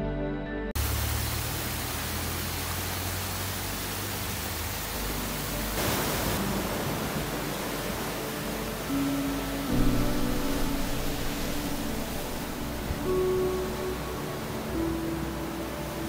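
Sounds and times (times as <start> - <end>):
stream splashing over rocks: 0.8 - 16.0
surf washing up a beach: 0.8 - 16.0.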